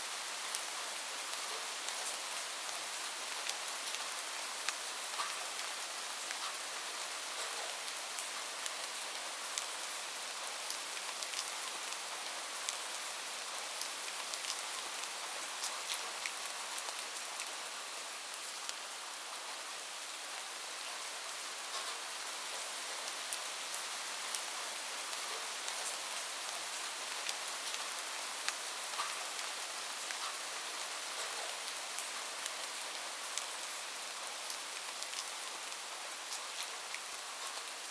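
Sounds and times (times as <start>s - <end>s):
light rain falling: 0.0s - 37.9s
raindrops ticking on surfaces: 0.2s - 20.1s, 20.8s - 37.9s.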